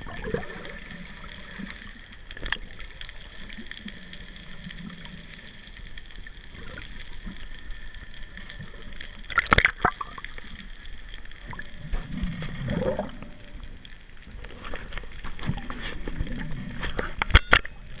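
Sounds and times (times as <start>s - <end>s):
muffled underwater water noise: 0.0s - 18.0s.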